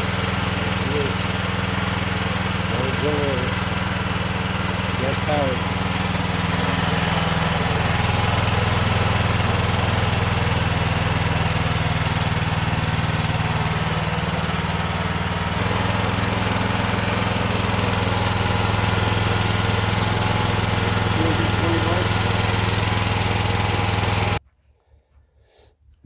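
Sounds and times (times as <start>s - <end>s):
generator engine drone: 0.0s - 24.4s.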